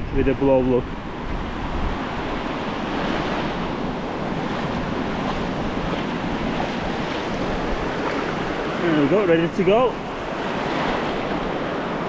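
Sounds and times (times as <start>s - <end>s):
wind on microphone: 0.0s - 12.0s
small waves rushing in: 0.4s - 12.0s.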